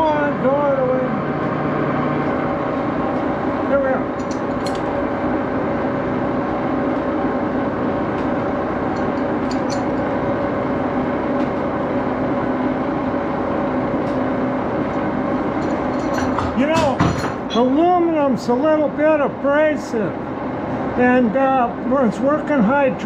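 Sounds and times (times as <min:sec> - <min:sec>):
metal lathe humming: 0:00.0 - 0:23.0.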